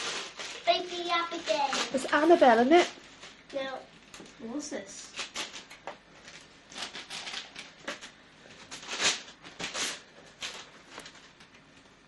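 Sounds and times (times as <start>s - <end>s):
paper packaging crinkling: 0.0s - 3.8s, 5.1s - 12.0s.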